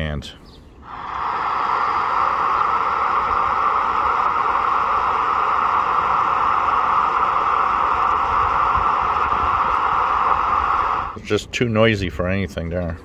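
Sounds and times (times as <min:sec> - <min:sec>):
radio static hiss: 0:00.8 - 0:11.5.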